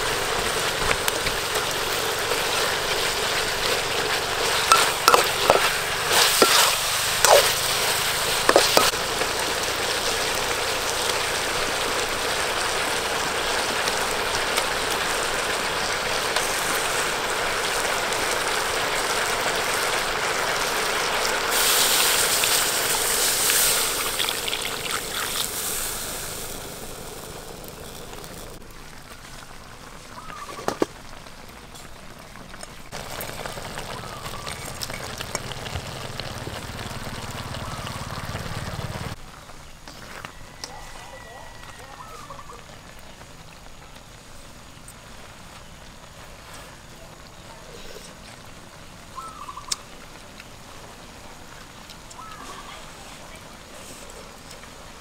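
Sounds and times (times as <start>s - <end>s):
food sizzling in a wok: 0.0s - 32.2s, 32.8s - 55.0s.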